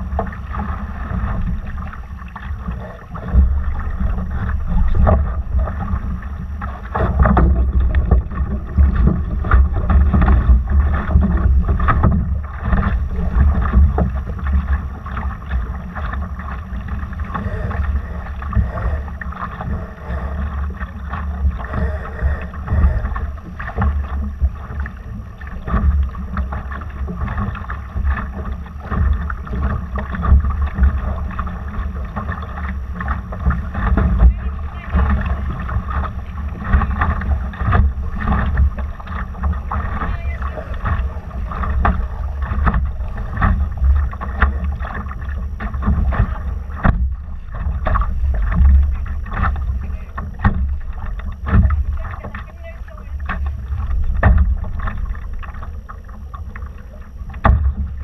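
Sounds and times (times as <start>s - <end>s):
water splashing against hull: 0.0s - 58.0s.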